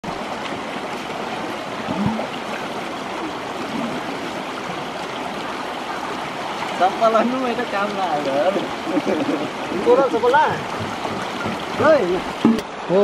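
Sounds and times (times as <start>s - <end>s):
river flowing over stones: 0.0s - 13.0s.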